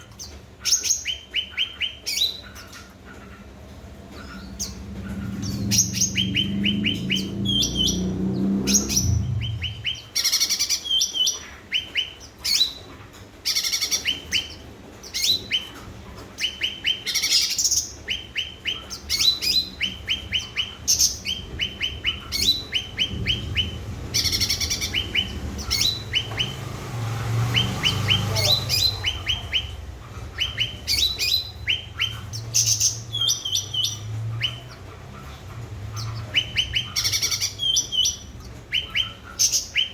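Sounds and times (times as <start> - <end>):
bird singing rapid phrases: 0.0 - 39.9
low background hum: 0.0 - 39.9.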